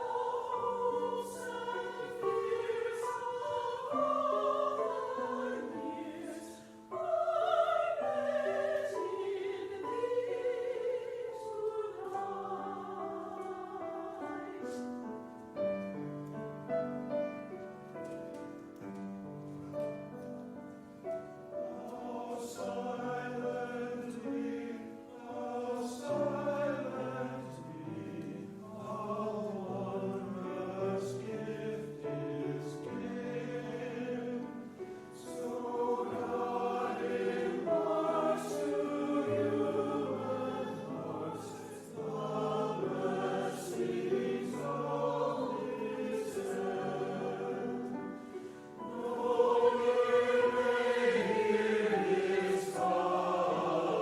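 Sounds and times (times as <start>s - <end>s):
choir singing: 0.0s - 18.2s, 19.8s - 54.0s.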